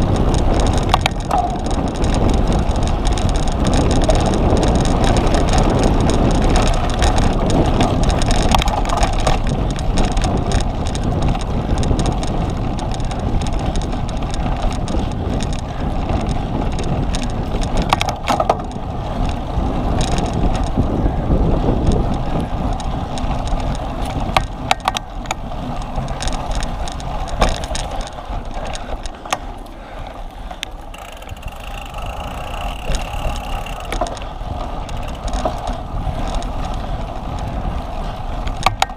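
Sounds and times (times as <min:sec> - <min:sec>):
bike rattling: 0:00.0 - 0:38.9
wind buffeting microphone: 0:00.0 - 0:38.9.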